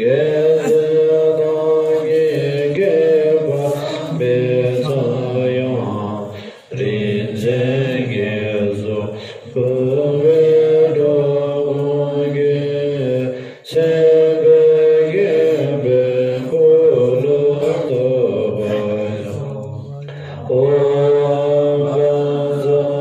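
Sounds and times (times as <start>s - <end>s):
group of voices chanting in unison: 0.0s - 23.0s.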